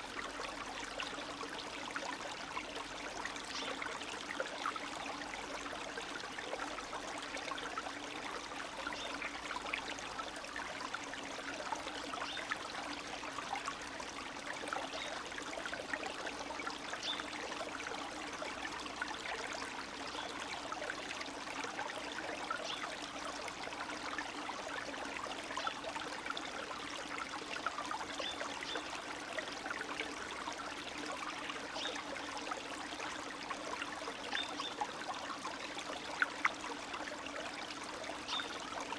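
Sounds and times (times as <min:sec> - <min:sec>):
stream running and trickling: 0:00.0 - 0:38.9.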